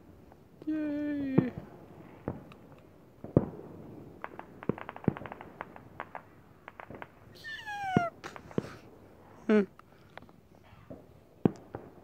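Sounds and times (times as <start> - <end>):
fireworks crackling pops: 0.0 - 8.9, 9.7 - 12.0.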